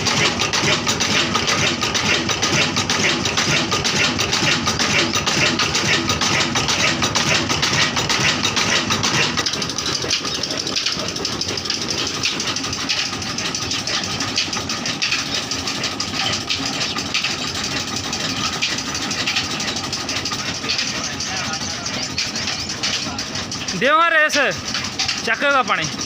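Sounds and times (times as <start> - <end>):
engine chugging: 0.0 - 26.0.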